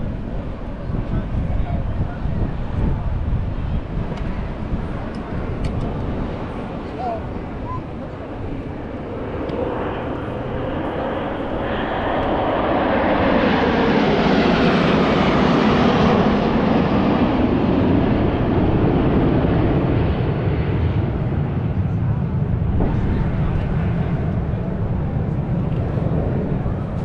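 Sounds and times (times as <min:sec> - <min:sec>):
airplane flying past: 0:00.0 - 0:27.0.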